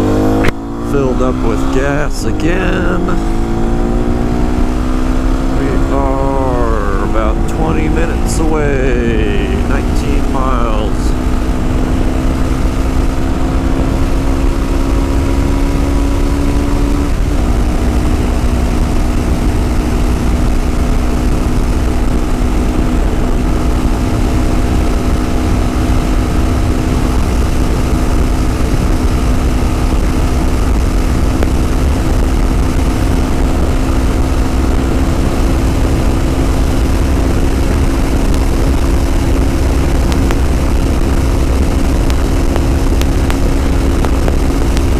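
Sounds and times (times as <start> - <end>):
motorcycle engine cruising: 0.0 - 44.9
wind rumble on microphone: 1.8 - 44.9.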